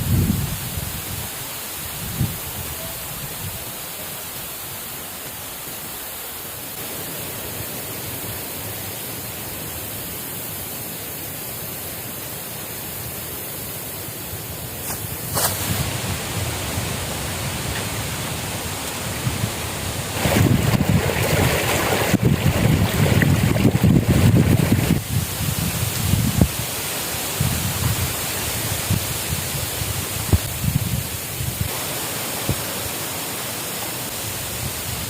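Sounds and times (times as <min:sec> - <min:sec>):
water hissing: 0:00.0 - 0:35.0.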